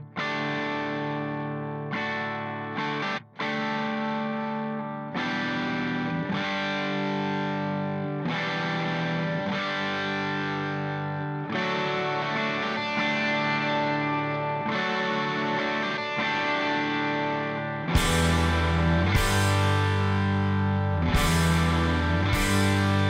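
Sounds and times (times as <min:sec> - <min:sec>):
distorted electric guitar chords: 0:00.0 - 0:23.0.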